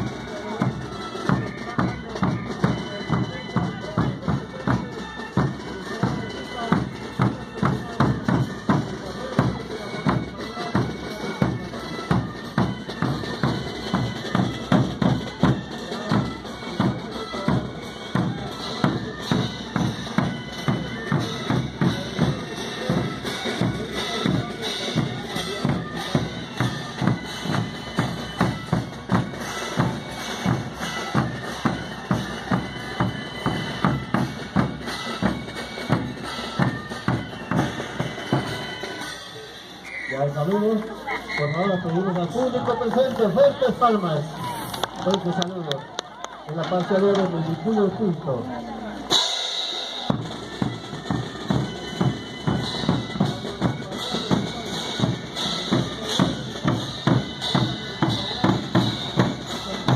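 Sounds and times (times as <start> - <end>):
large drums beating: 0.0 - 39.2, 49.0 - 59.9
wind instruments playing melody: 0.0 - 46.4, 47.5 - 59.9.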